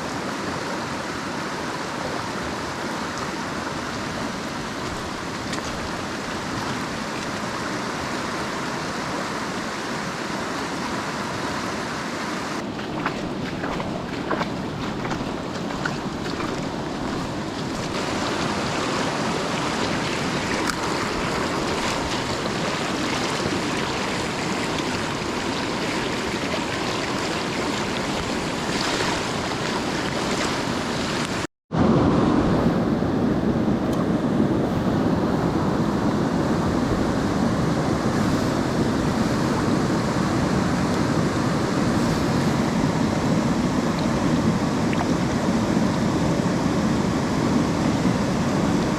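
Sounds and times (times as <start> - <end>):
mountain stream rushing water: 0.0 - 32.0, 33.6 - 48.9.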